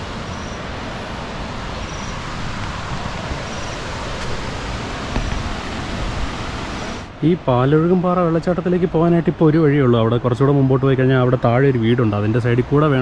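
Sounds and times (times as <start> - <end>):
outdoor rushing noise: 0.0 - 10.9.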